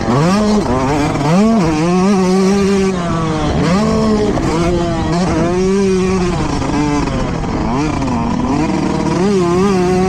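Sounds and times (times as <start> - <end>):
motocross bike engine high revs: 0.0 - 10.0.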